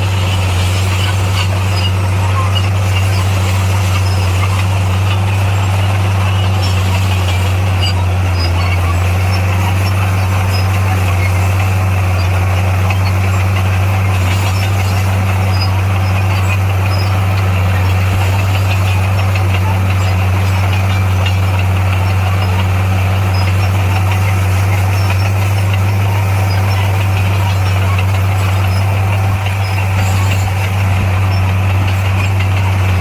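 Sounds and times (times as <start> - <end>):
heavy diesel engine droning: 0.0 - 33.0.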